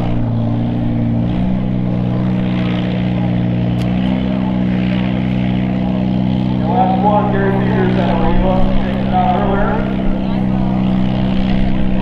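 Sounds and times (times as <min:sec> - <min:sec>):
tractor engine pulling hard: 0:00.0 - 0:12.0.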